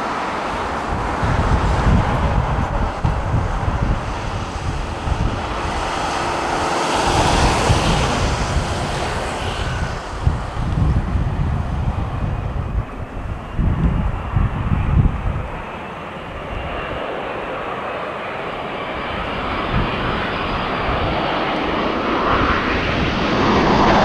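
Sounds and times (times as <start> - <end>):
jet airliner passing: 0.0 - 24.0
wind buffeting microphone: 0.0 - 24.0.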